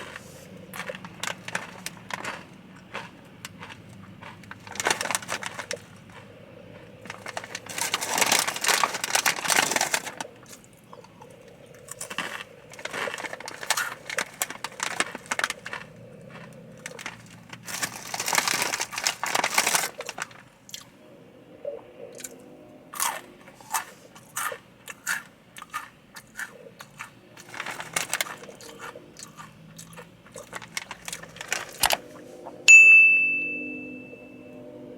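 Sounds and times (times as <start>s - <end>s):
chewing crunchy tortilla chips: 0.0s - 21.0s, 23.0s - 32.4s.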